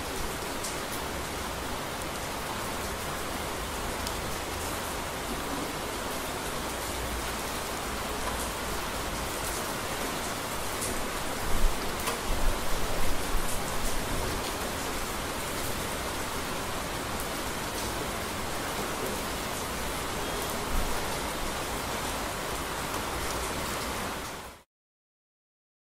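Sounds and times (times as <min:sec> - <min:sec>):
steady rain falling: 0:00.0 - 0:24.6.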